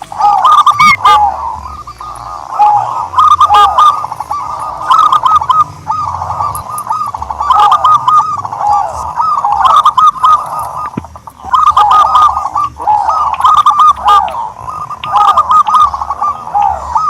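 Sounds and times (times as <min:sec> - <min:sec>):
turtledove cooing: 0:00.0 - 0:17.0.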